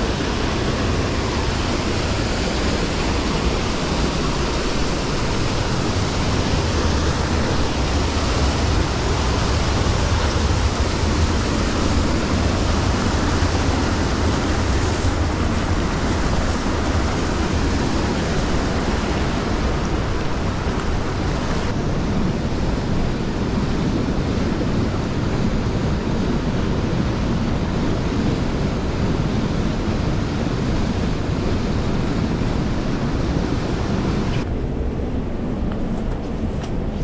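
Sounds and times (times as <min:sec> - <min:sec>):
stream rushing: 0:00.0 - 0:37.0.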